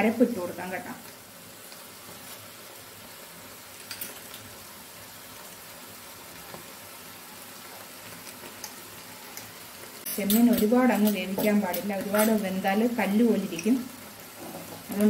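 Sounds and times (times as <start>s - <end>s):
prawns sizzling in a pan: 0.0s - 15.0s.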